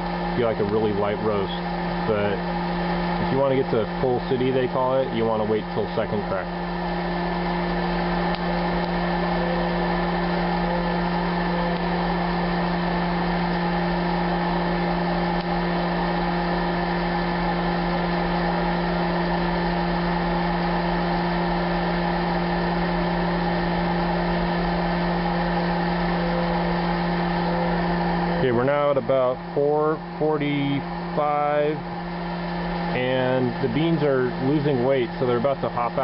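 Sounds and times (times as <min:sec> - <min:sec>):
popcorn popper fan humming: 0:00.0 - 0:36.0.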